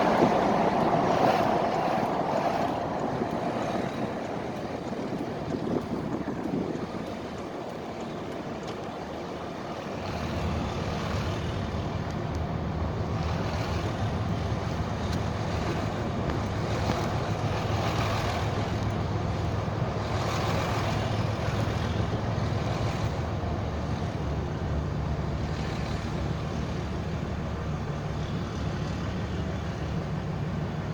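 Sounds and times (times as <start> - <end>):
diesel engine exhaust: 0.0 - 30.9.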